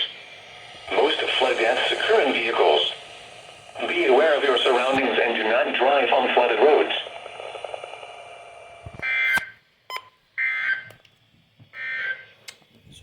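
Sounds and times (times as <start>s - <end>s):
emergency alert data tones: 0.8s - 10.9s, 11.8s - 12.3s.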